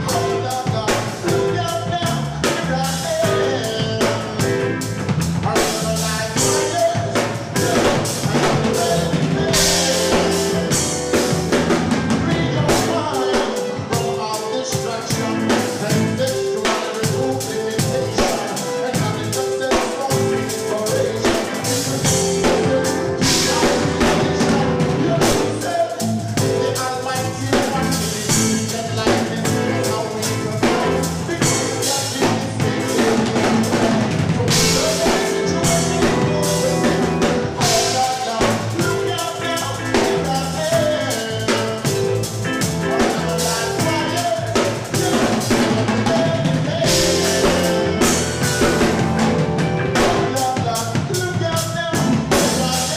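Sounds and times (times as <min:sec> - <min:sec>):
drum kit snare and bass drum: 0:00.0 - 0:52.9
live band playing instrumental: 0:00.0 - 0:52.9.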